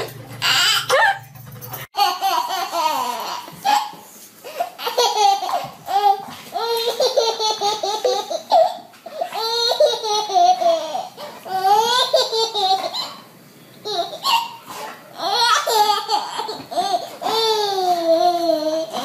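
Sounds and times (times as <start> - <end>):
baby laughing: 0.4 - 1.2, 2.0 - 19.0.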